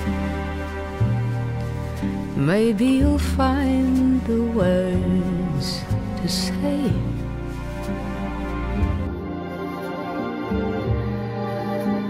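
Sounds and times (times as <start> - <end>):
soft ballad instrumental: 0.0 - 12.0.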